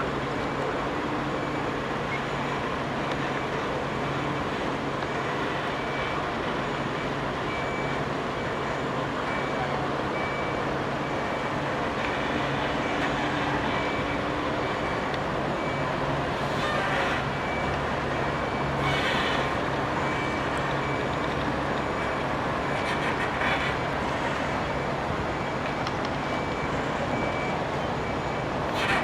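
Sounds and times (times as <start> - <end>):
heavy traffic with engine hum: 0.0 - 29.0.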